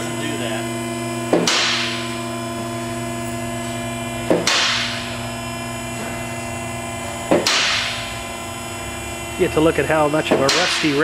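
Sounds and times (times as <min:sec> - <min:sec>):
hydraulic pump motor humming: 0:00.0 - 0:11.0.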